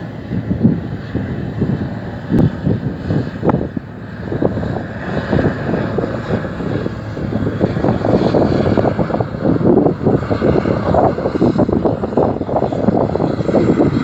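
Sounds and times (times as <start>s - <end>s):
aircraft flying past: 0.0s - 14.0s
wind buffeting microphone: 0.0s - 14.0s.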